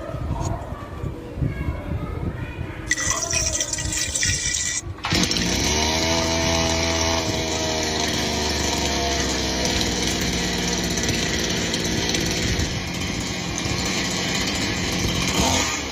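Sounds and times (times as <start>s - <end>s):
two-stroke chainsaw engine running: 2.9s - 15.9s.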